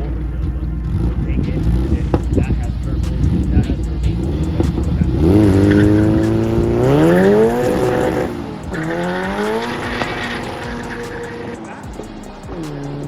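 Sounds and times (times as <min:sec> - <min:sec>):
car engine revving hard: 0:00.0 - 0:13.0
tyres squealing: 0:00.0 - 0:13.0.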